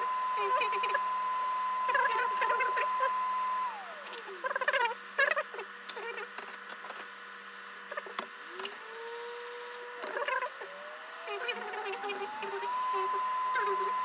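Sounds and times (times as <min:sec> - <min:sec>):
small electric motor spinning: 0:00.0 - 0:06.3, 0:07.9 - 0:14.0.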